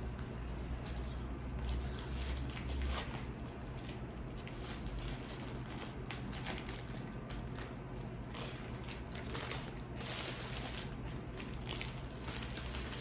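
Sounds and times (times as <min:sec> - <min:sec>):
sandwich wrapper crackling: 0:00.1 - 0:13.0.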